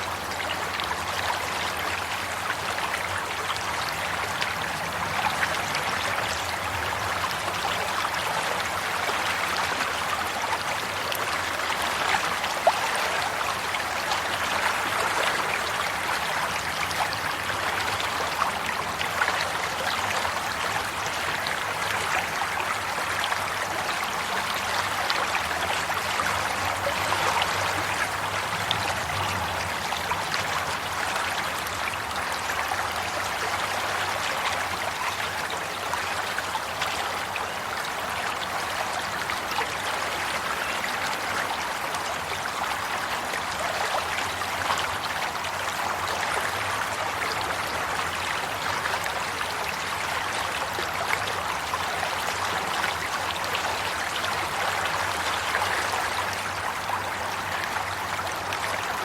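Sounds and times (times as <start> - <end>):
stream water babbling: 0.0 - 59.0.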